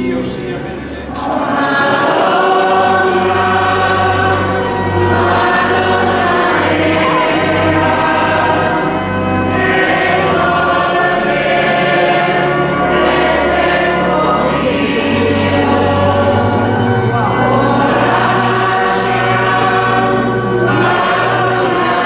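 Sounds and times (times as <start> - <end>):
choir singing a hymn: 0.0 - 22.0
low bass accompaniment: 0.0 - 22.0.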